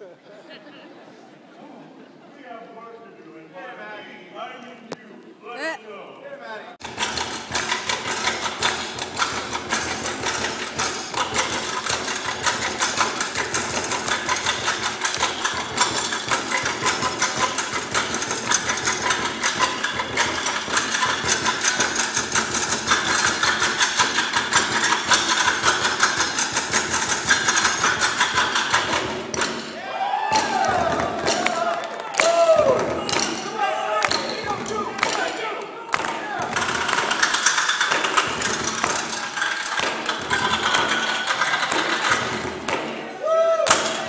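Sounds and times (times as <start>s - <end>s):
drumming on stepladders: 6.8s - 44.0s.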